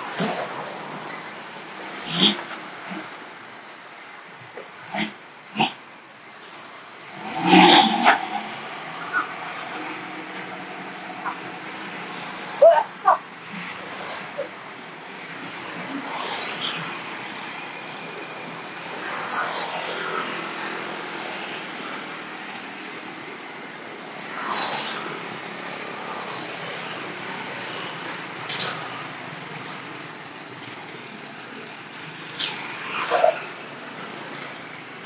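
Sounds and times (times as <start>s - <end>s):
motorcycles and cars passing: 0.0s - 35.0s.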